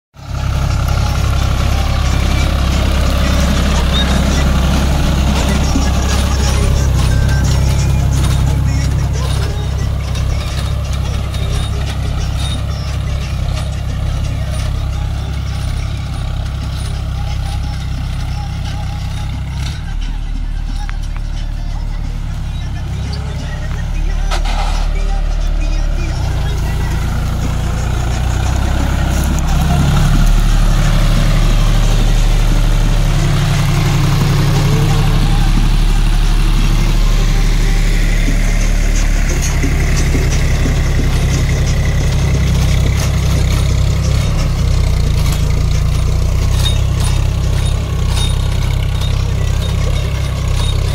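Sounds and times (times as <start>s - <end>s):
tractor diesel engine running: 0.1s - 50.9s
plough rattling through soil: 0.3s - 50.9s.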